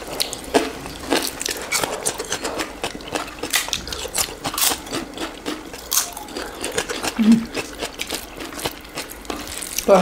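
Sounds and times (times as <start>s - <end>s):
chewing and crunching: 0.0s - 10.0s.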